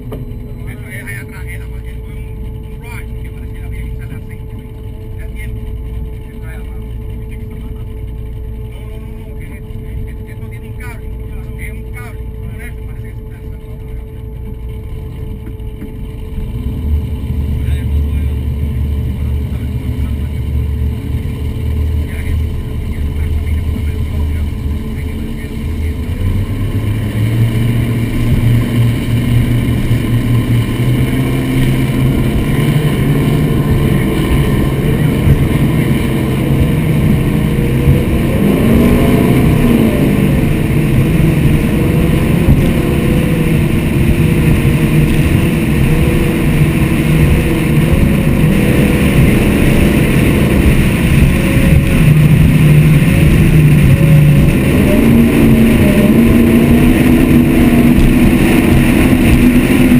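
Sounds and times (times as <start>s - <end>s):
boat engines running hard: 0.0s - 59.9s
water rushing along hull: 0.0s - 59.9s.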